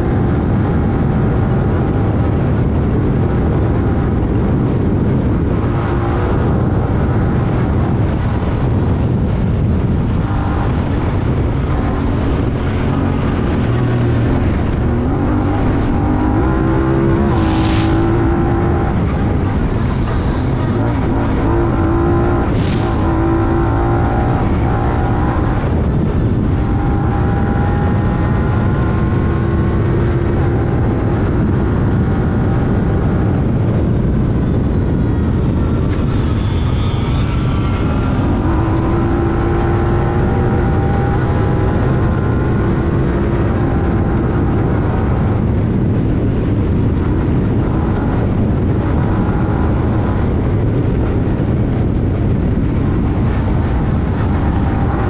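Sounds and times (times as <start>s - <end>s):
vehicle engine running hard: 0.0s - 55.0s.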